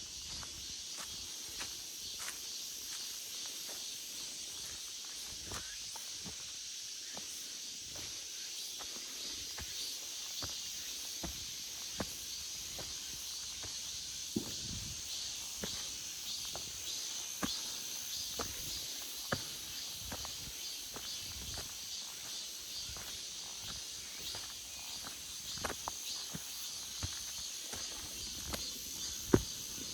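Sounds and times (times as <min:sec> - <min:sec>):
cicadas buzzing: 0:00.0 - 0:29.9.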